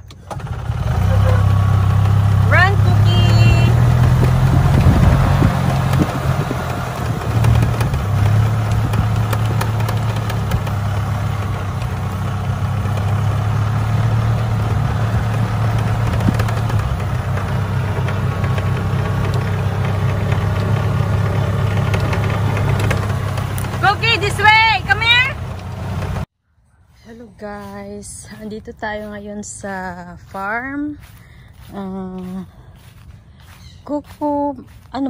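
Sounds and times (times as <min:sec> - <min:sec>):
small vehicle engine running: 0:00.0 - 0:26.3, 0:28.4 - 0:34.9
vehicle rattles: 0:00.0 - 0:26.3, 0:27.4 - 0:35.0.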